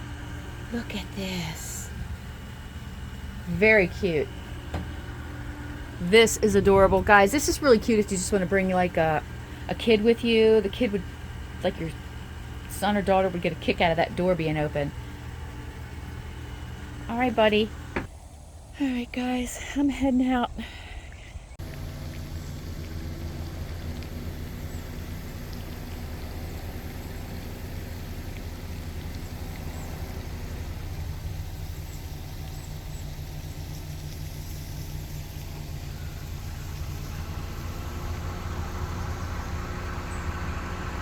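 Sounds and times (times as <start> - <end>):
car engine humming: 0.0 - 41.0.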